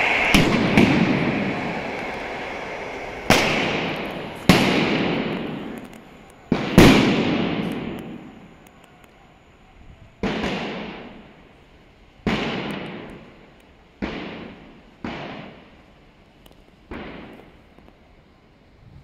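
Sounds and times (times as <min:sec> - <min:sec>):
firecrackers banging with echo: 0:00.0 - 0:09.1, 0:10.2 - 0:18.1.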